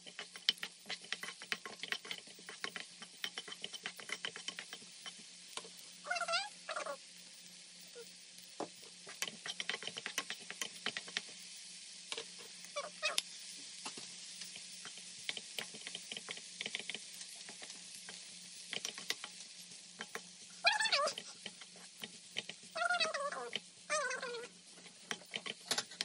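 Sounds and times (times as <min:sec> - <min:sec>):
wooden spatula scraping a pan: 0:00.0 - 0:05.9, 0:08.6 - 0:11.5, 0:12.1 - 0:26.0
food sizzling in a frying pan: 0:00.0 - 0:26.0.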